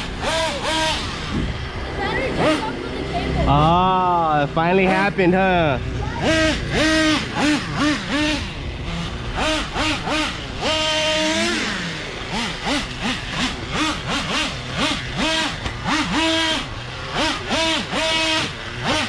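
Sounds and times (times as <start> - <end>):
nitro engine revving: 0.0 - 19.0.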